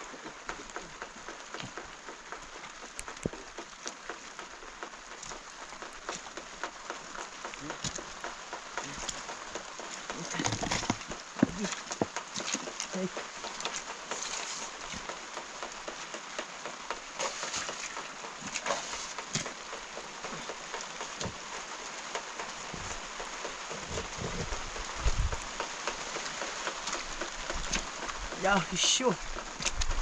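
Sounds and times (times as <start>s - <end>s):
sharp drips and taps: 0.0s - 30.0s
steady rain hiss: 0.0s - 30.0s.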